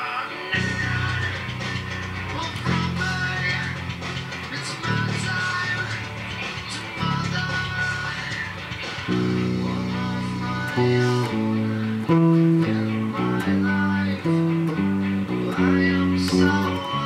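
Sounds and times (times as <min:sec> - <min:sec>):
electric bass guitar riff: 0:00.5 - 0:17.0.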